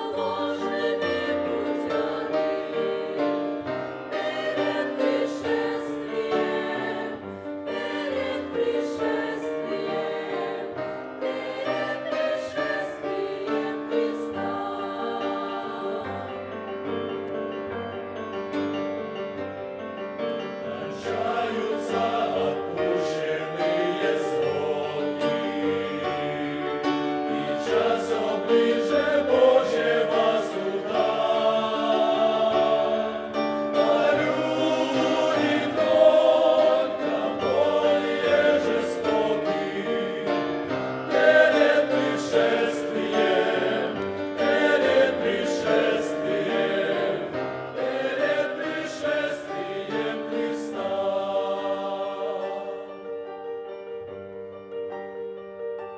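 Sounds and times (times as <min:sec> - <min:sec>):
mixed choir singing a hymn: 0:00.0 - 0:17.1, 0:20.5 - 0:53.2.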